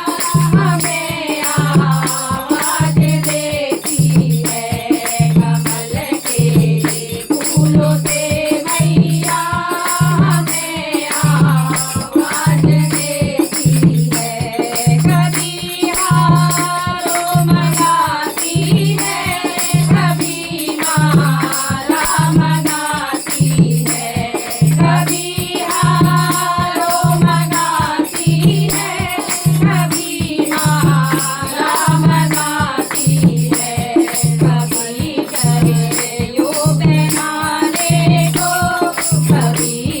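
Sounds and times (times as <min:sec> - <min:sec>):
high rattling percussion: 0:00.0 - 0:40.0
person singing devotional song: 0:00.0 - 0:40.0.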